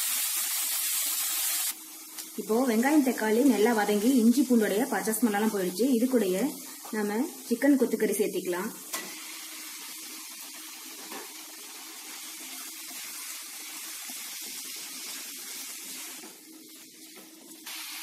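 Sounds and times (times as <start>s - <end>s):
meat sizzling in hot oil: 0.0s - 18.0s.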